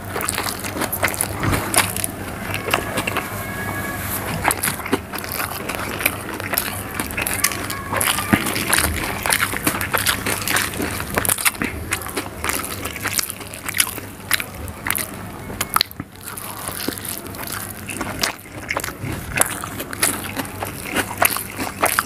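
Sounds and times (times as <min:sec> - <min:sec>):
wet chewing and biting: 0:00.0 - 0:03.3, 0:04.1 - 0:22.0.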